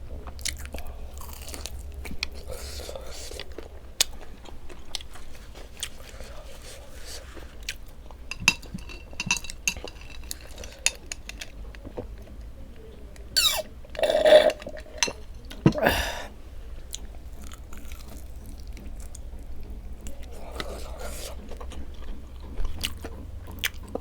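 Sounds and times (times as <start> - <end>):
chewing: 0.1 - 24.0.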